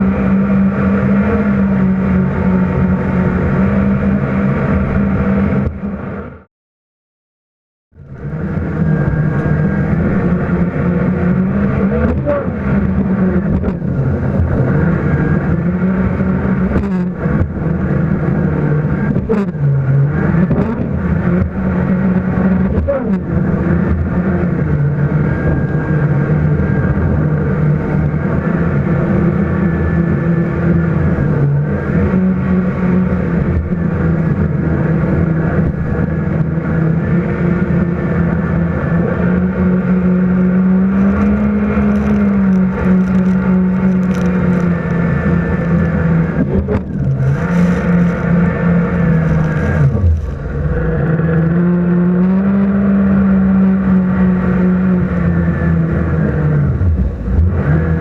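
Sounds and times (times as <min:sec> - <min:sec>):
jet ski engine running: 0:00.0 - 0:06.5, 0:08.0 - 0:58.0.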